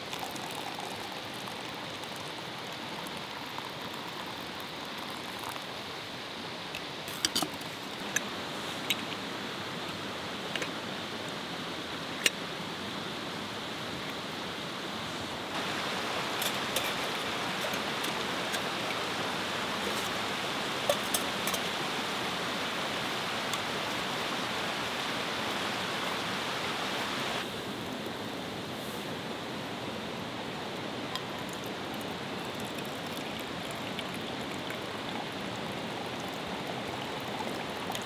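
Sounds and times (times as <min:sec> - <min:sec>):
woodland stream rushing: 0:00.0 - 0:38.0.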